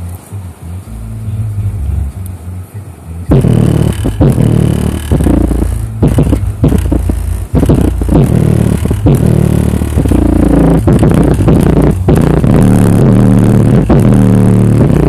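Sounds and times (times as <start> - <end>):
subwoofer bass music: 0.0 - 15.0.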